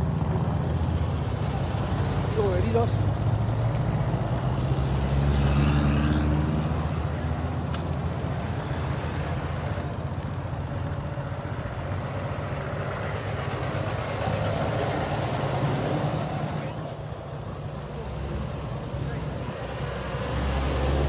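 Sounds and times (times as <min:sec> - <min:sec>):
heavy trucks engine rumble: 0:00.0 - 0:21.0.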